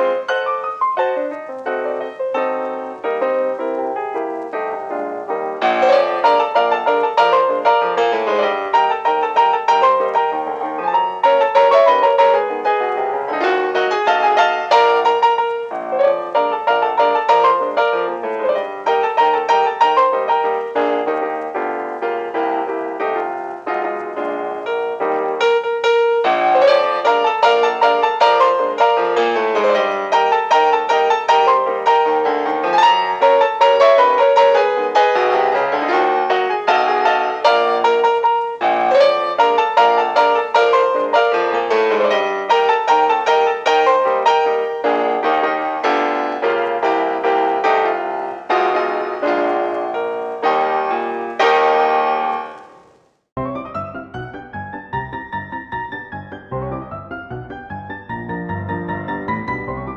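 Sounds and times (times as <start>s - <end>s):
piano music: 0.0s - 59.9s.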